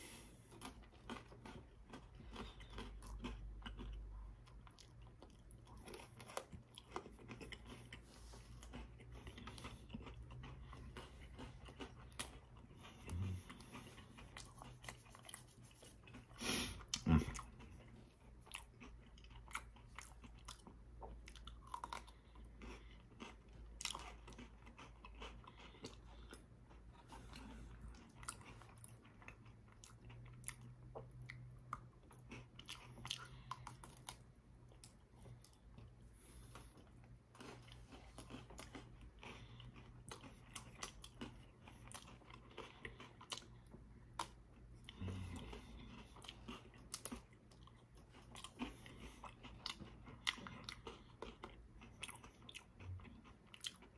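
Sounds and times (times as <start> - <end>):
chewing crunchy biscuit sticks: 0.0 - 53.9.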